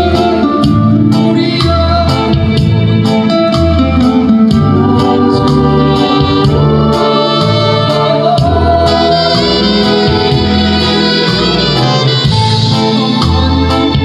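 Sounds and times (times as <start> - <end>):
man singing into a microphone: 0.0 - 2.8, 4.5 - 14.0
amplified instrumental accompaniment: 0.0 - 14.0.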